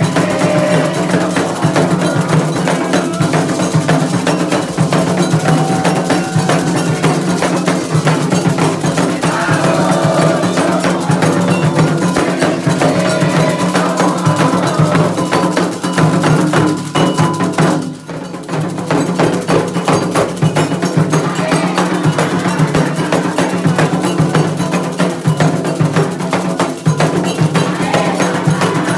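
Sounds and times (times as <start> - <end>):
metal bell ringing: 0.0 - 28.7
hand drums in fast rhythm: 0.0 - 28.9.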